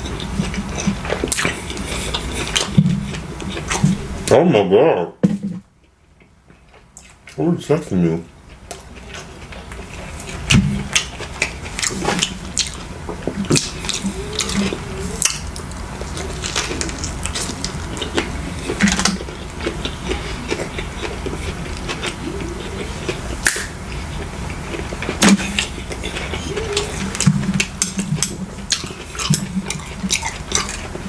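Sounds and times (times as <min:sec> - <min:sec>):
wet chewing and slurping: 0:00.0 - 0:04.1, 0:08.5 - 0:31.0.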